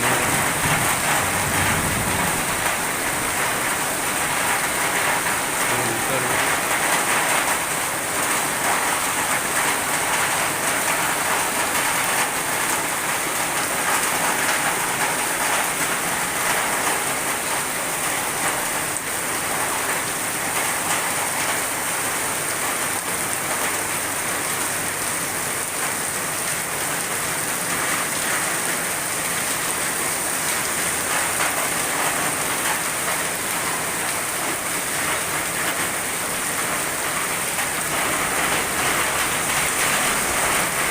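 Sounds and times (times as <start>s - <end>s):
heavy rain drumming on surfaces: 0.0s - 40.9s.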